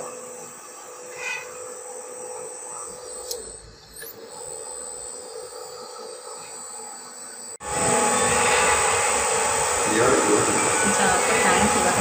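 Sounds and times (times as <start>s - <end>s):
electric motor humming and whining: 0.0s - 12.0s.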